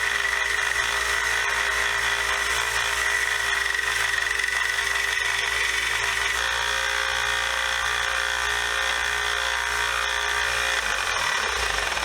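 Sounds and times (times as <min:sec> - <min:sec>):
belt sander grinding metal: 0:00.0 - 0:12.0.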